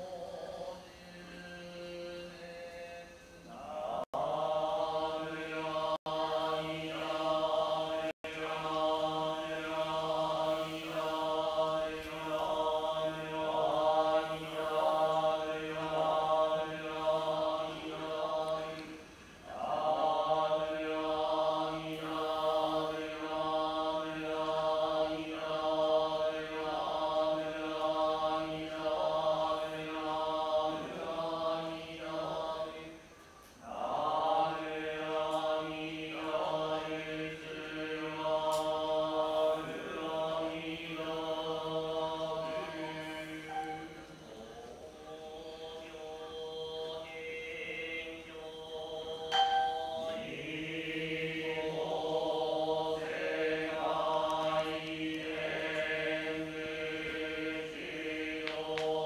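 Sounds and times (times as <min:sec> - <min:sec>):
monks chanting together: 0:00.0 - 0:59.0.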